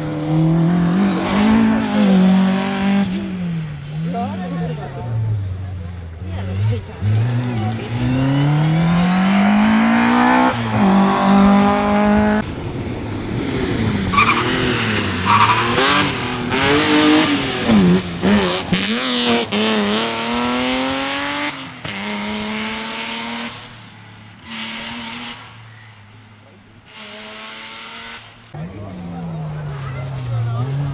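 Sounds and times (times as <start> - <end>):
rally car engine revving: 0.0 - 12.6, 13.2 - 30.9.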